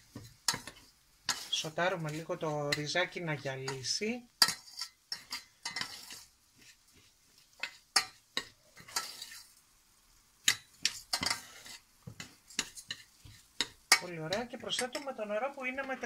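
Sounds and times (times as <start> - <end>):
soft sizzling hiss: 0.0 - 16.0
spoon scraping a saucepan: 0.2 - 3.0, 3.6 - 9.5, 10.5 - 15.2.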